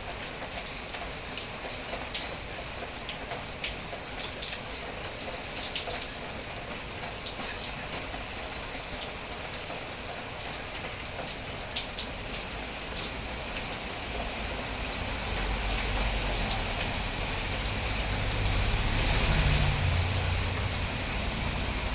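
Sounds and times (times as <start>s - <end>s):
rain drops on hard surface: 0.0s - 21.9s.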